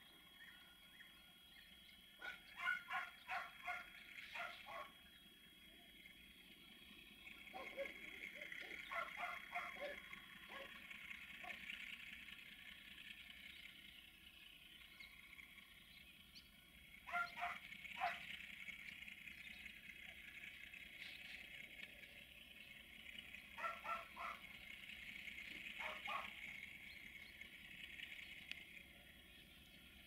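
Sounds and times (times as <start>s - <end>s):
faint distant diesel locomotive: 0.0s - 30.0s
high hiss of rural background: 0.0s - 30.0s.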